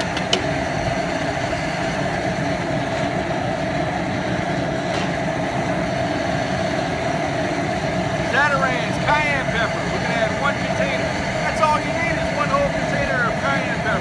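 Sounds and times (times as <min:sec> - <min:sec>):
gas burner rushing: 0:00.0 - 0:14.0.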